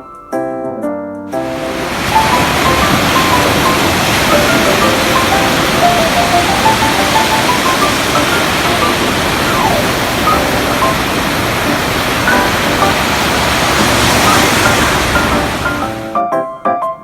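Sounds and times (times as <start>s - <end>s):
light background music: 0.0s - 17.0s
ocean surf rushing: 1.4s - 16.2s.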